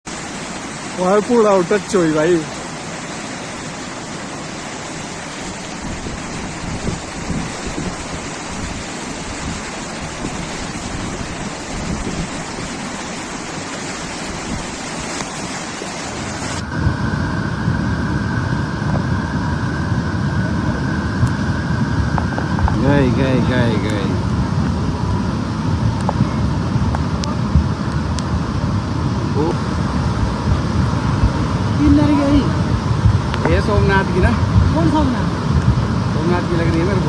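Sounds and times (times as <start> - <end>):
torrent of fast water rushing: 0.0 - 37.0.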